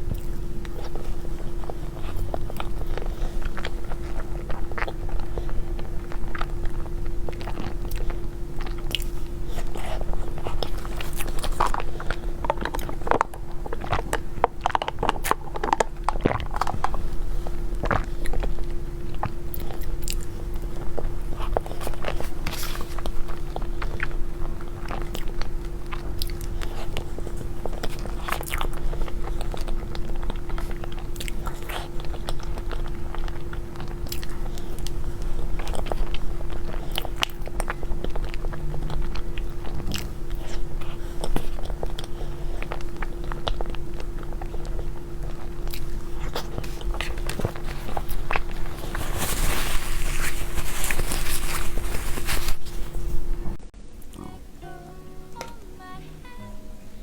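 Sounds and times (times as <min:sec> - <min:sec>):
chewing and mouth smacks: 0:00.0 - 0:54.3
steady hum: 0:00.0 - 0:57.0.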